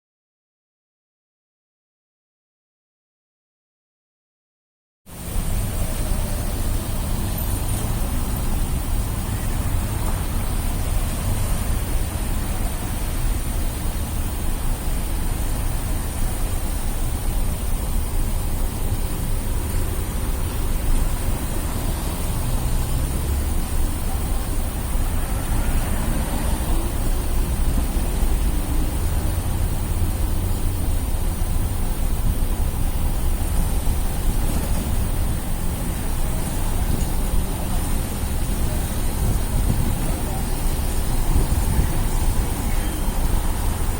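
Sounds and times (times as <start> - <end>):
low traffic rumble: 5.1 - 43.9
rain hiss on street: 5.1 - 43.9.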